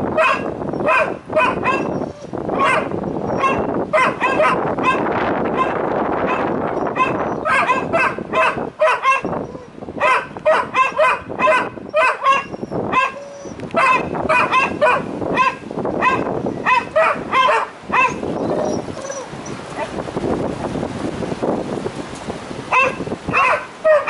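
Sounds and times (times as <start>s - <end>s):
dogs barking: 0.1s - 20.0s, 22.7s - 24.0s.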